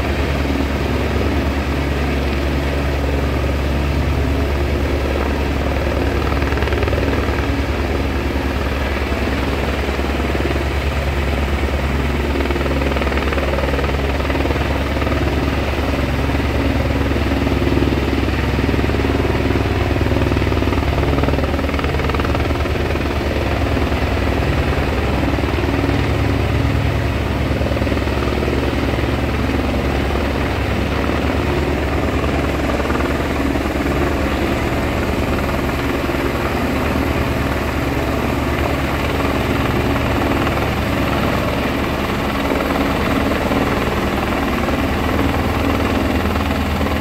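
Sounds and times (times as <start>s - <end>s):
helicopter rotor beat: 0.0s - 47.0s.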